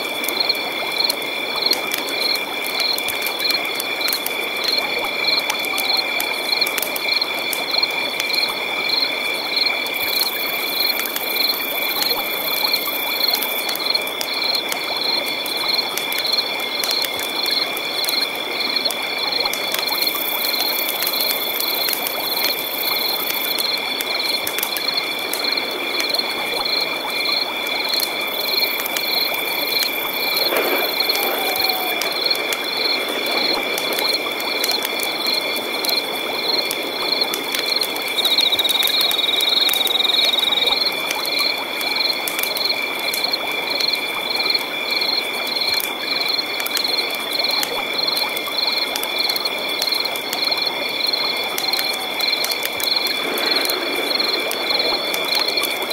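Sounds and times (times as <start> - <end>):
frogs croaking: 0.0 - 55.9
insects trilling: 0.0 - 55.9.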